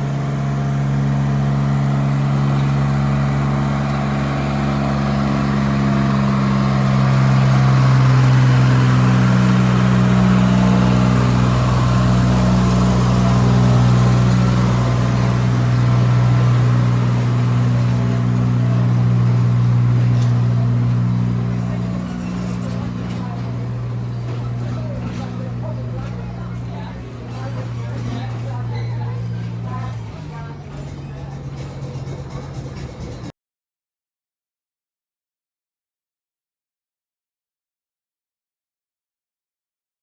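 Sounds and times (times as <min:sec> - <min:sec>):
locomotive engine running: 0:00.0 - 0:33.3.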